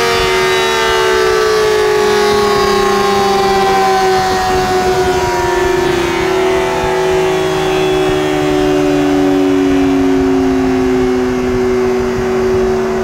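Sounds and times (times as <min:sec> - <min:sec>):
motorcycle engine revving high: 0:00.0 - 0:13.0
steady whine: 0:00.0 - 0:13.0.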